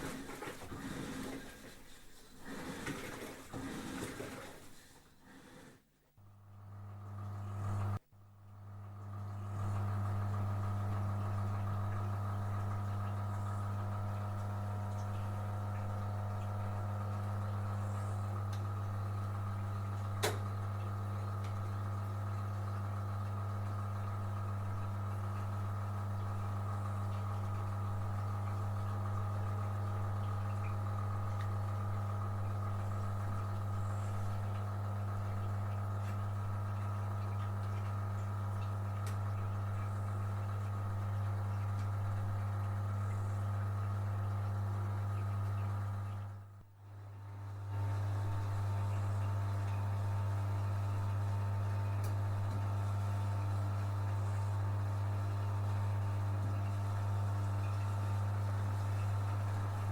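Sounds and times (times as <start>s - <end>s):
low machine hum: 5.4s - 59.9s.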